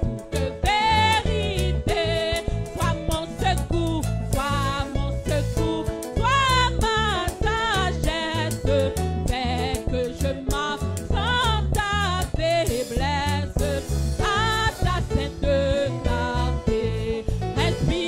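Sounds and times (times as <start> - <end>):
woman singing into a microphone: 0.3 - 18.0.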